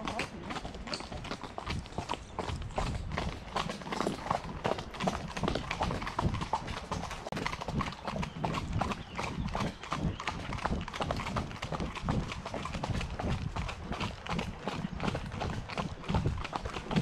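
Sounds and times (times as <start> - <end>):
horse hooves on gravel: 0.0 - 17.0.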